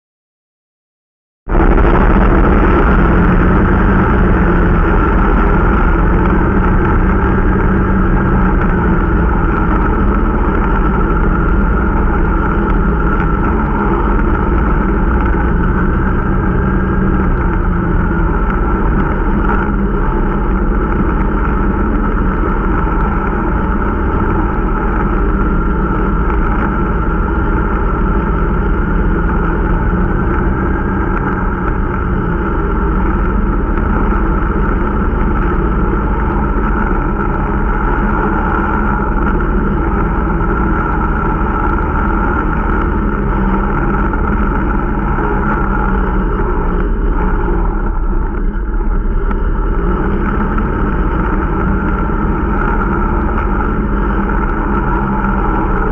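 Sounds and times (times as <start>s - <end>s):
snowmobile engine running: 1.5s - 55.9s.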